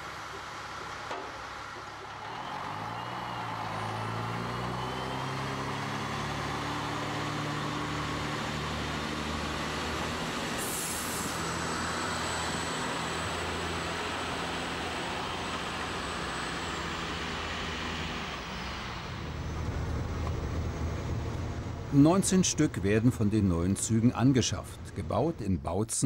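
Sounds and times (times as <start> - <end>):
diesel railcar engine: 0.0 - 25.7.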